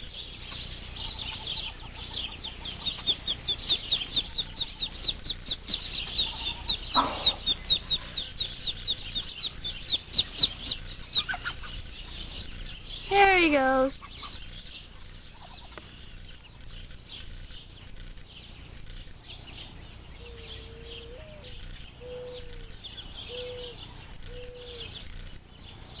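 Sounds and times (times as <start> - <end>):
ducklings peeping: 0.0 - 26.0.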